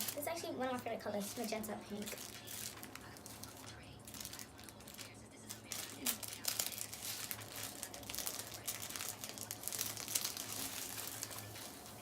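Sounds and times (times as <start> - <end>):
packaging crinkling and rustling: 0.0 - 0.4, 1.2 - 12.0.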